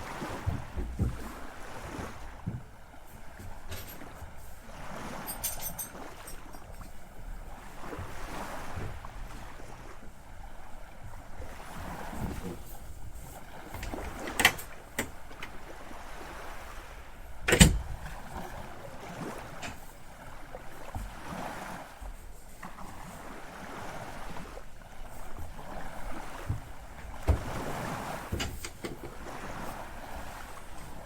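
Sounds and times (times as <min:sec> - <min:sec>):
water washing along boat hull: 0:00.0 - 0:31.0.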